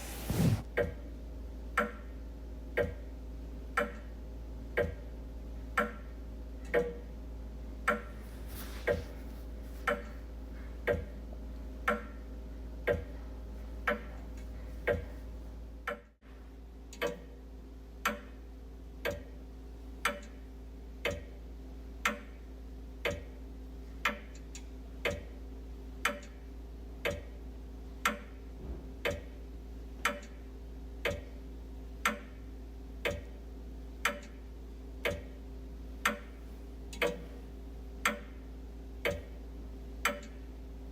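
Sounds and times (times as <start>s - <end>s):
wall clock ticking: 1.7s - 2.1s, 2.7s - 5.1s, 5.7s - 7.2s, 7.8s - 16.2s, 16.9s - 17.4s, 18.0s - 18.4s, 19.0s - 19.4s, 20.0s - 23.4s, 24.0s - 25.4s, 26.0s - 40.6s.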